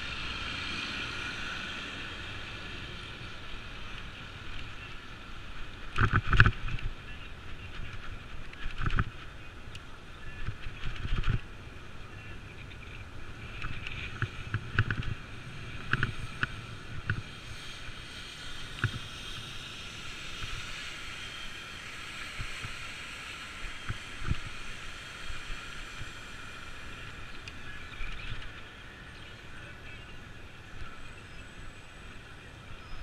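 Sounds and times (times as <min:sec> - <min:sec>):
bicycle tyre and wind noise: 0:00.0 - 0:33.0.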